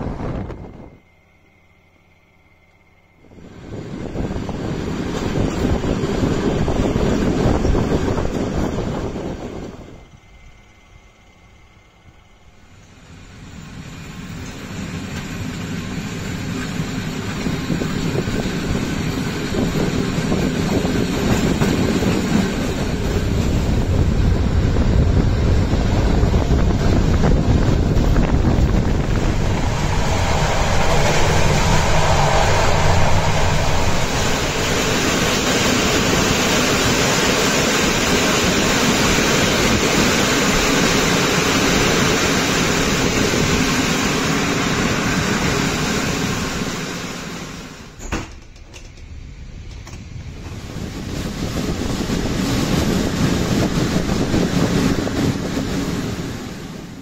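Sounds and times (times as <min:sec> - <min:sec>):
wind: 0:00.0 - 0:57.0
train wheels on rails: 0:03.2 - 0:57.0.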